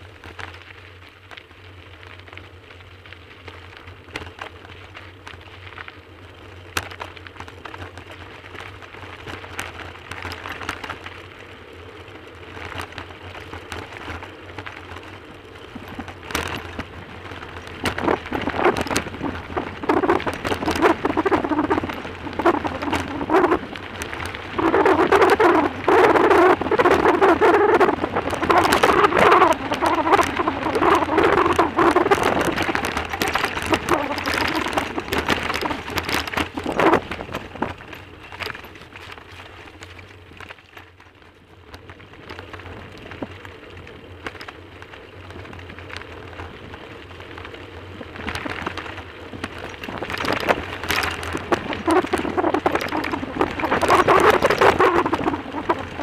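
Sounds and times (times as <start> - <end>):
bicycle tyres crunching on gravel: 0.0 - 56.0
bike rattling over bumps: 0.0 - 56.0.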